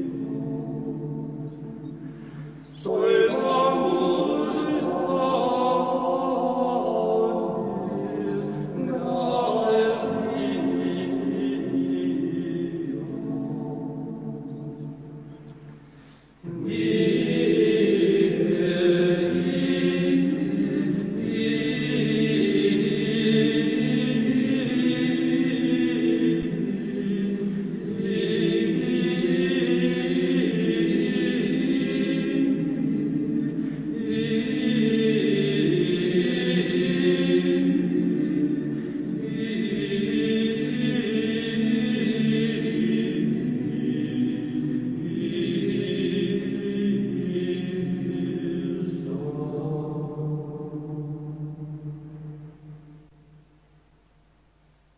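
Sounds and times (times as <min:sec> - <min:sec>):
choir singing a slow chant: 0:00.0 - 0:53.5.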